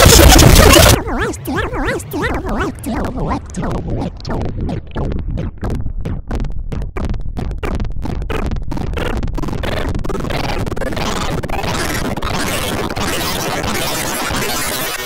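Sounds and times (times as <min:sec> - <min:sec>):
electronic music stuttering pulse: 0:00.0 - 0:15.0.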